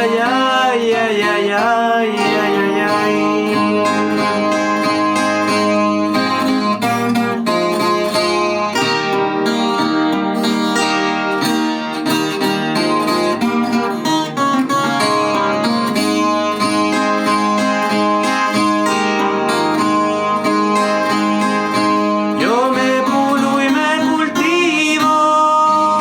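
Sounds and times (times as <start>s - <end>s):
plucked guitar notes: 0.0s - 26.0s.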